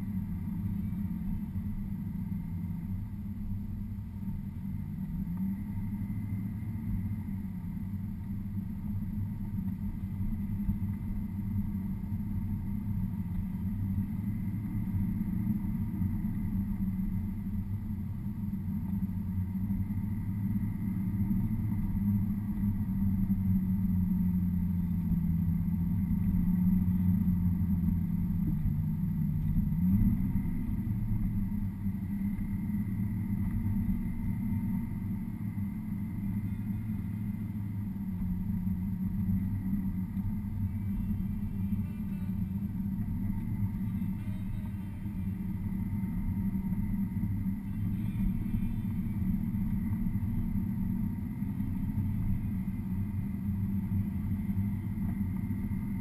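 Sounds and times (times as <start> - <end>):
car engine from inside cabin: 0.0 - 56.0.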